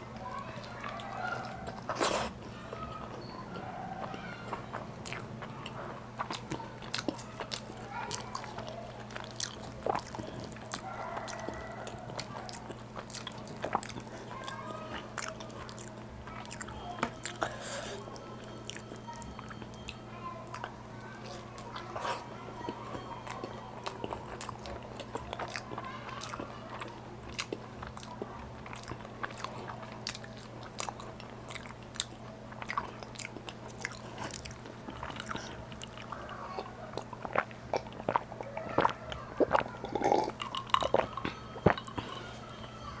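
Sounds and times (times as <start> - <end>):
chewing and biting food: 0.0 - 43.0.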